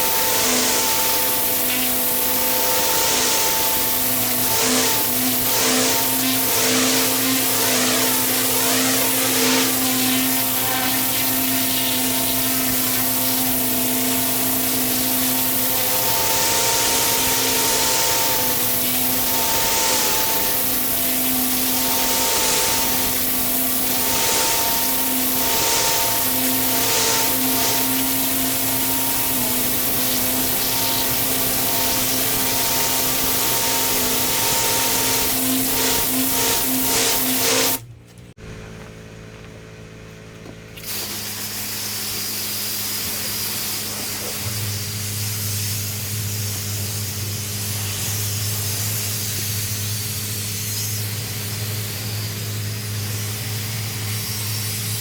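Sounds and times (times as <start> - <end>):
water jet spraying paving: 0.0 - 37.8, 40.8 - 55.0
pressure washer machine hum: 0.0 - 55.0.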